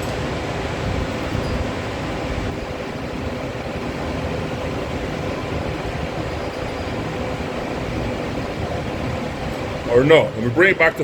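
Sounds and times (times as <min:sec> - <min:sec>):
motorized target carrier running: 0:00.0 - 0:11.0.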